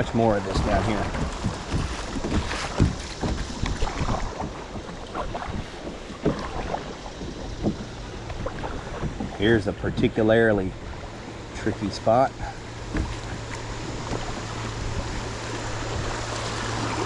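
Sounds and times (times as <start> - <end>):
wind on microphone: 0.0 - 11.3, 12.6 - 17.0
kayak splashes and knocks: 0.0 - 17.0
rushing water: 0.0 - 17.0.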